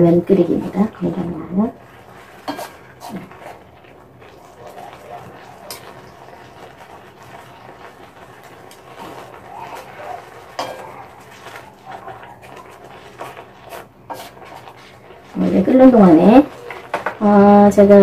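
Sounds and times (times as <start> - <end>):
chopsticks stirring bean sprouts: 0.2 - 18.0.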